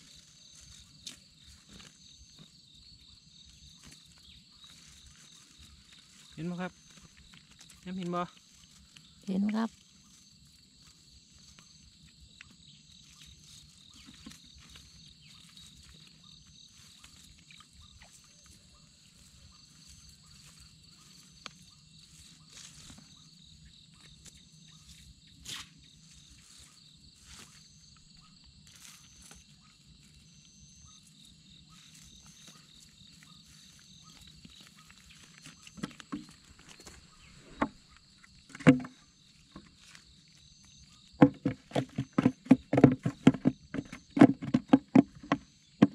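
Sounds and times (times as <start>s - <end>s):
crickets trilling: 0.0s - 45.9s
insect call in short bursts: 0.0s - 45.9s.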